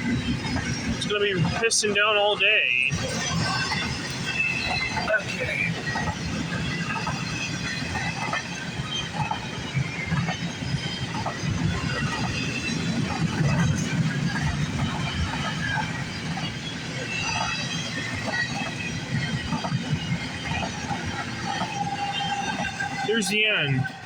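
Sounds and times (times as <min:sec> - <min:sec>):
train wheels rumbling on rail: 0:00.0 - 0:24.0
wheel squeals and clicks: 0:02.9 - 0:24.0.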